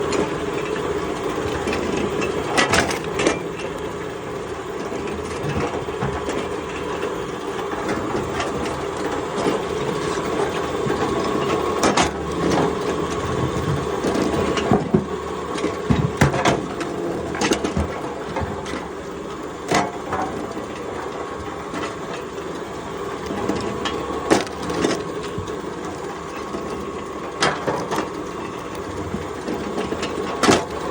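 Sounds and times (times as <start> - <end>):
steady machine hum: 0.0 - 30.9.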